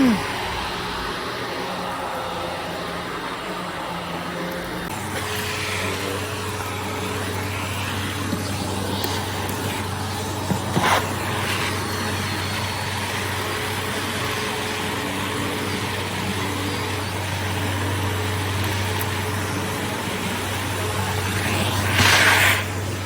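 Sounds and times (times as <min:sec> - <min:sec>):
carpet-cleaning machine running: 0:00.0 - 0:23.0.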